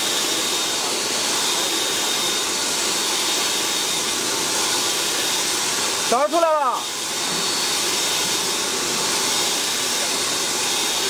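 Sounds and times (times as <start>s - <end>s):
snow machine hissing: 0.0s - 11.0s.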